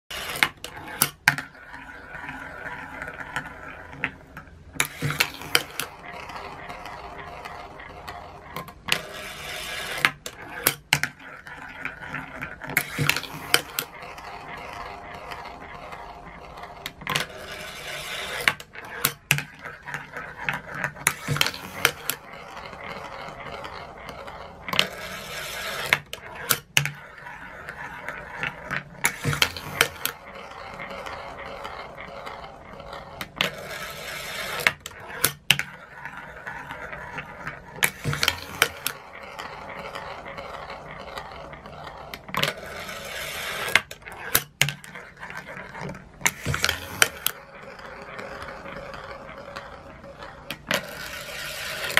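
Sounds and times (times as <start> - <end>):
balls rolling around funnels: 0.1 - 51.9
steel balls clicking on rails: 0.1 - 51.9.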